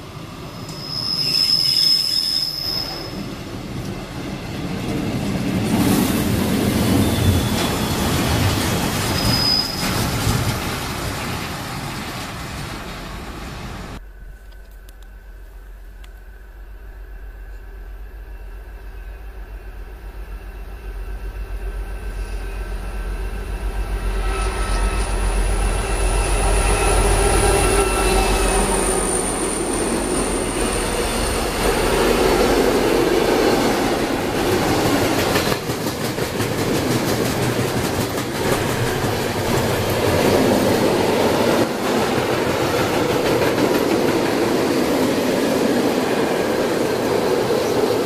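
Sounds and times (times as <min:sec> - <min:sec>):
locomotive rumble and whine: 0:02.8 - 0:44.8.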